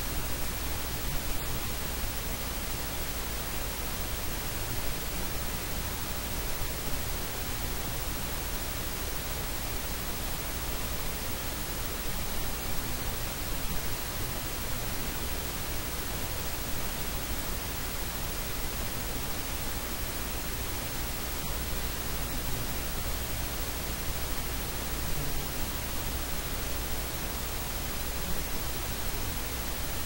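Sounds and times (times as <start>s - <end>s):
static hiss: 0.0s - 30.0s.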